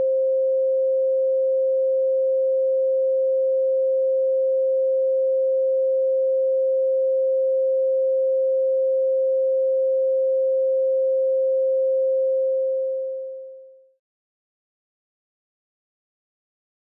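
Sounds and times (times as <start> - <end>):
pure sine tone: 0.0 - 14.0.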